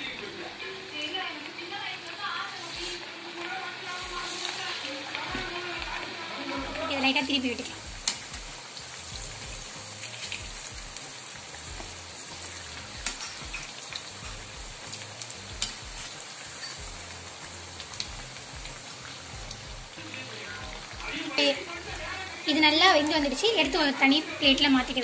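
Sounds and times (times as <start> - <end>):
fritters deep-frying in oil: 0.0 - 25.0.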